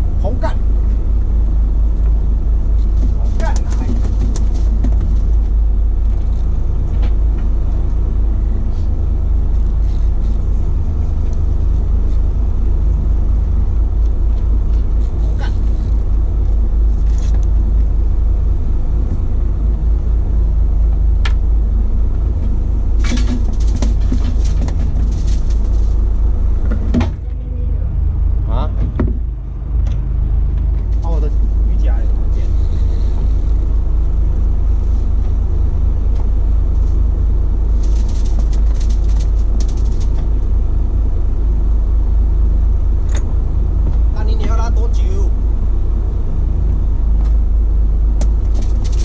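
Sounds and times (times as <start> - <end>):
boat engine idling: 0.0 - 49.0.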